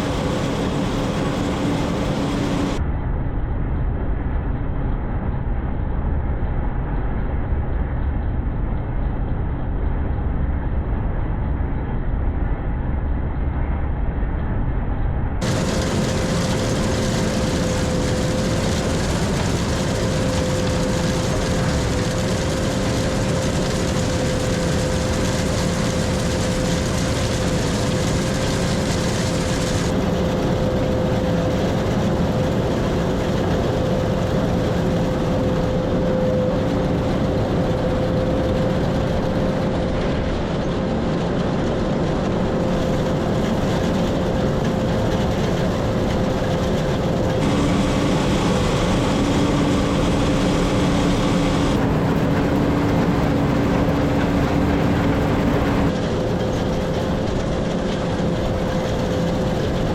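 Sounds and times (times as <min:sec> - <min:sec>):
combine harvester drone: 0:00.0 - 0:13.2, 0:15.2 - 0:59.9
steady machine whine: 0:00.0 - 0:59.9.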